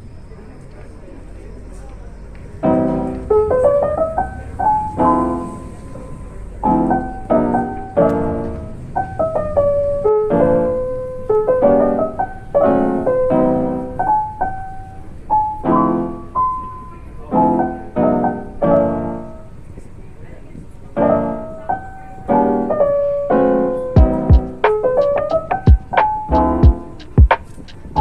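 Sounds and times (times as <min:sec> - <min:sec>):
piano music: 0:02.5 - 0:19.6, 0:20.9 - 0:28.0.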